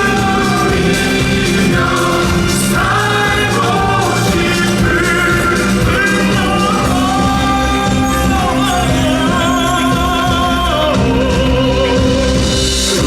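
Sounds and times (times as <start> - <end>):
orchestral accompaniment: 0.0 - 13.0.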